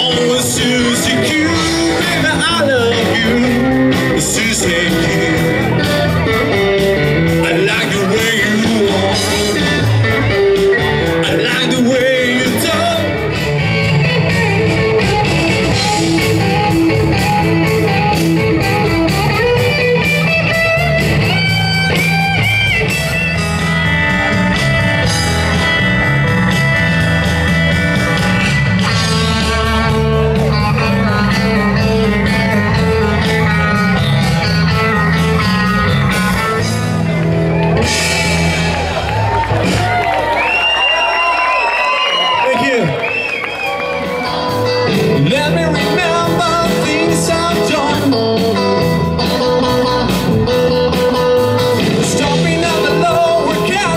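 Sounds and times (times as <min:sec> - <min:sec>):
bass guitar: 0:00.0 - 0:53.9
drums: 0:00.0 - 0:53.9
electric guitar: 0:00.0 - 0:53.9.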